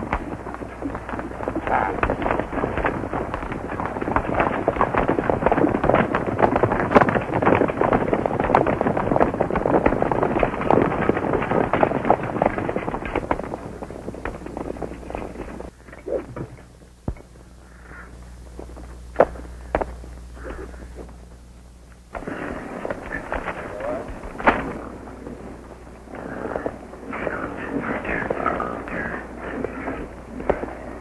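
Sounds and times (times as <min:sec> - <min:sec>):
galloping horse hooves: 0:00.0 - 0:31.0
steady low hum: 0:00.0 - 0:31.0.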